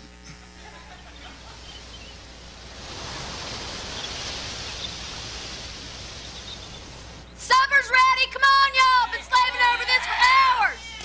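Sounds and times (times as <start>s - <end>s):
steady hiss-like noise: 0.0s - 11.0s.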